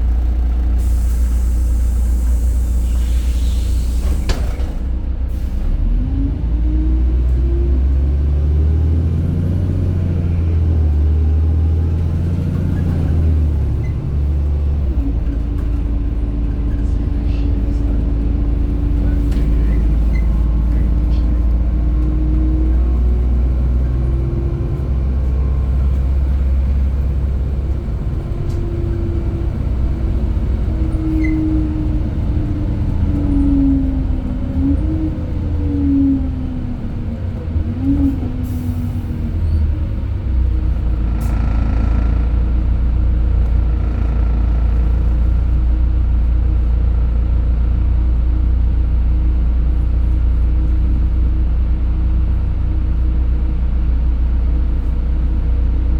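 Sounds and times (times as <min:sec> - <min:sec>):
bus engine rumble: 0:00.0 - 0:55.9.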